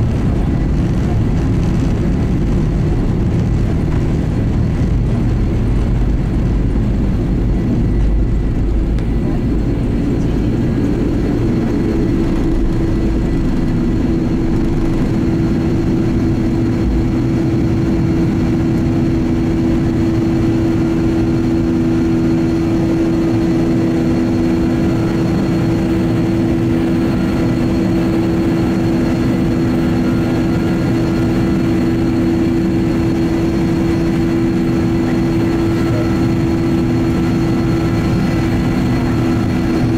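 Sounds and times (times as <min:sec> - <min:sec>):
jet engine drone: 0:00.0 - 0:39.9
runway rumble from wheels: 0:00.0 - 0:39.9.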